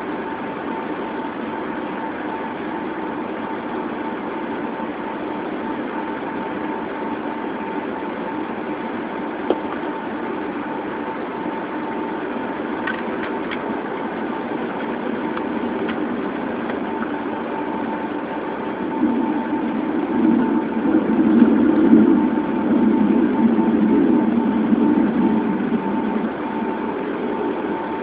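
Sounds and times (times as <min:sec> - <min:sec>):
airliner cabin engine and air rush: 0:00.0 - 0:28.0
faint steady whine: 0:00.0 - 0:28.0.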